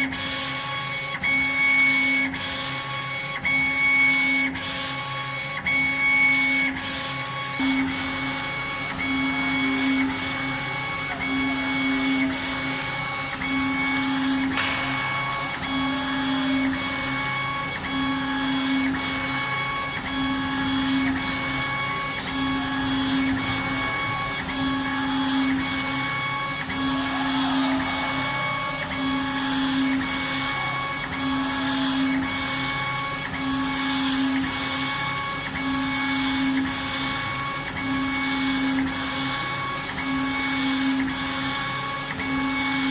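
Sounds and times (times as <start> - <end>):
machine whine: 0.0 - 42.9
laser head drive humming: 7.6 - 42.9.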